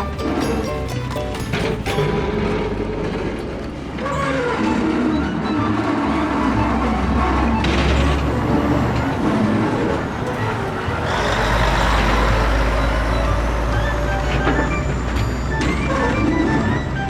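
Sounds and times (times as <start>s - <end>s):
heavy truck engine: 0.0s - 17.0s.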